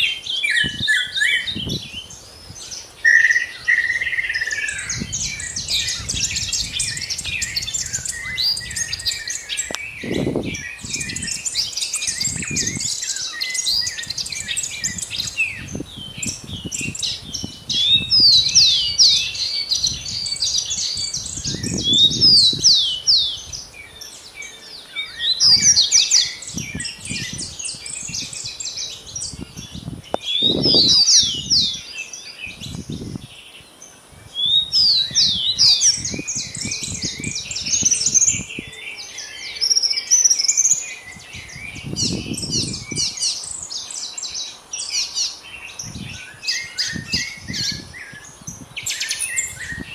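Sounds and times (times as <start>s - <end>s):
many birds chirping and singing: 0.0s - 49.9s.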